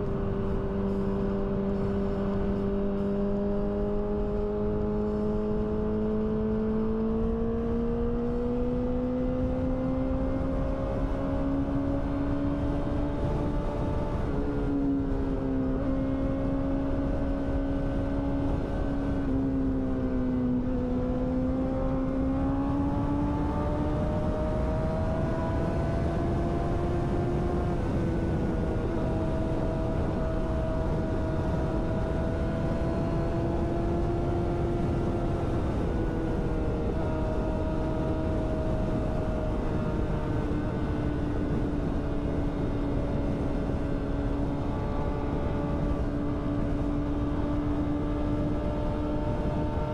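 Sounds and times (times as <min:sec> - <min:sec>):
motorcycle engine cruising: 0:00.0 - 0:49.9
wind and road noise: 0:00.0 - 0:49.9.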